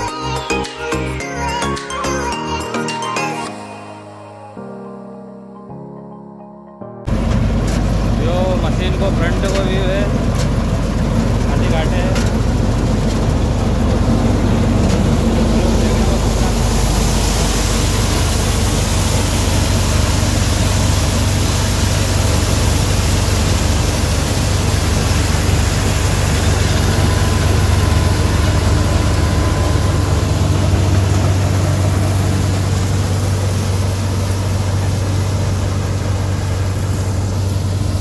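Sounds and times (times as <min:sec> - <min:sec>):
combine harvester engine drone: 0:07.1 - 0:38.0
threshing machinery noise: 0:07.1 - 0:38.0.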